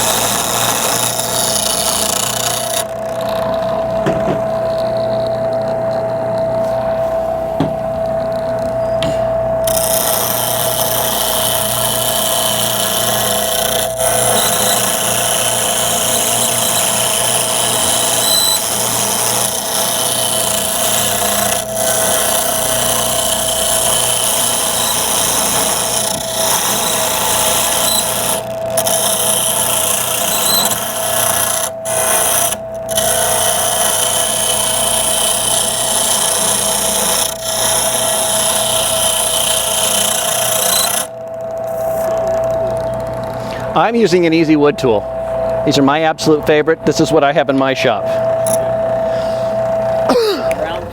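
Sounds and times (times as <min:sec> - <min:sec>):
turning tool scraping wood: 0:00.0 - 0:44.2
wood lathe humming: 0:00.0 - 0:50.9.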